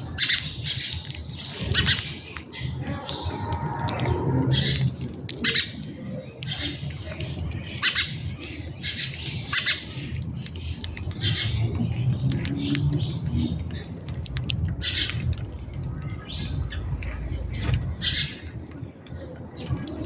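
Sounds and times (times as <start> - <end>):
small birds chirping and squawking: 0.0 - 20.0.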